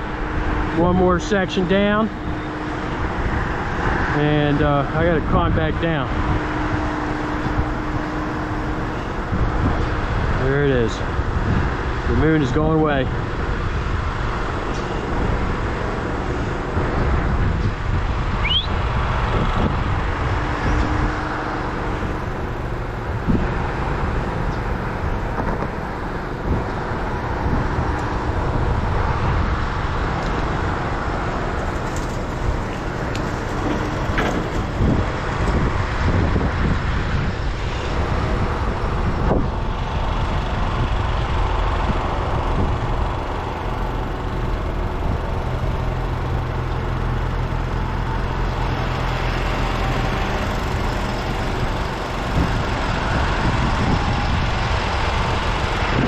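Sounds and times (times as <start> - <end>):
road traffic: 0.0 - 56.0
vehicle engine rumble: 0.0 - 56.0.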